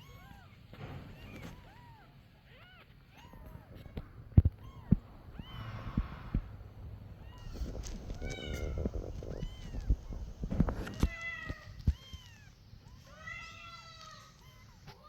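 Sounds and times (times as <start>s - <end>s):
kittens mewing: 0.0s - 15.0s
rustling: 0.1s - 15.0s.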